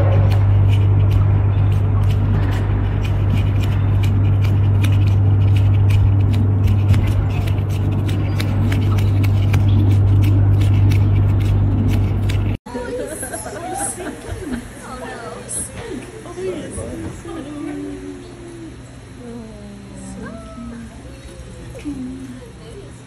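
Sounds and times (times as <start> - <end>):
loud steady low hum: 0.0 - 23.0.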